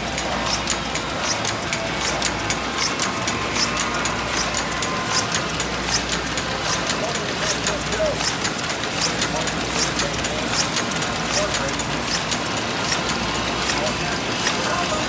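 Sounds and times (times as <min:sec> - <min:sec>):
envelope machine clatter: 0:00.0 - 0:15.0.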